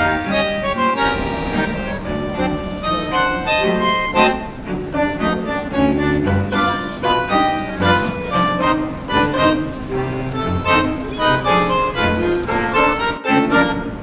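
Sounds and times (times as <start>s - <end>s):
accordion melody: 0.0s - 14.0s
regular bass notes: 0.0s - 14.0s.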